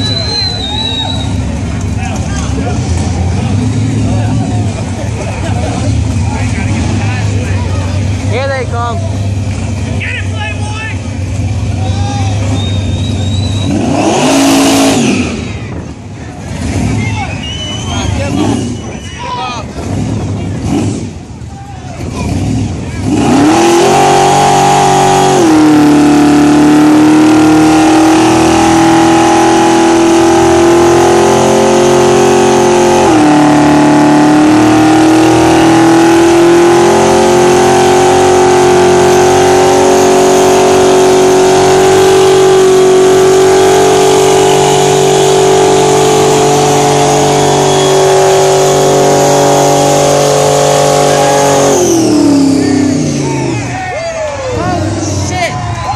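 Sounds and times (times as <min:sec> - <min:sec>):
car engine revving in burnout: 0:00.0 - 0:19.0, 0:19.6 - 0:55.9.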